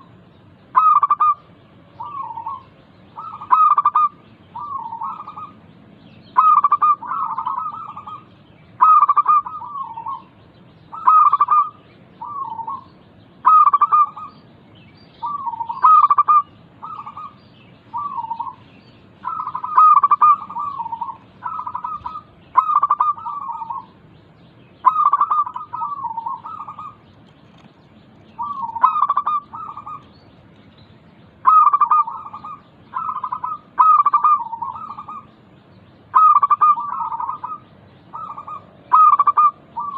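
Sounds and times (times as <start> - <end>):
doves cooing: 0.7 - 5.6, 6.3 - 10.3, 10.9 - 14.4, 15.2 - 24.1, 24.8 - 30.2, 31.3 - 35.4, 36.1 - 39.9.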